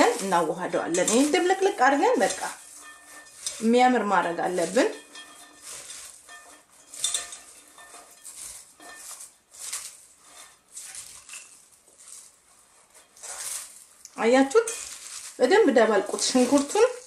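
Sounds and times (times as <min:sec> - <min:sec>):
vegetables rustling in a bowl: 0:00.0 - 0:17.0.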